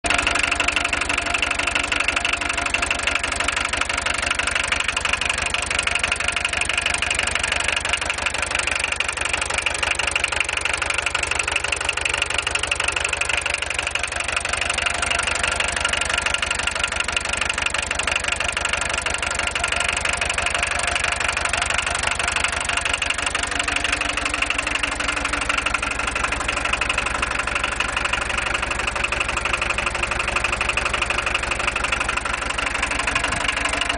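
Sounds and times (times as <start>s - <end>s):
diesel engine idling with clatter: 0.0s - 33.9s.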